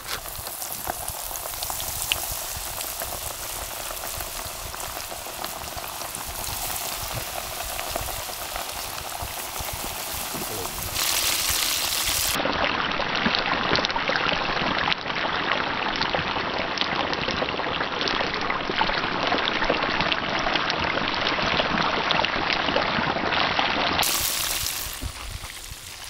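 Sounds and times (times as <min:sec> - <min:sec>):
fish deep-frying sizzle: 0:00.0 - 0:14.6, 0:15.2 - 0:26.0.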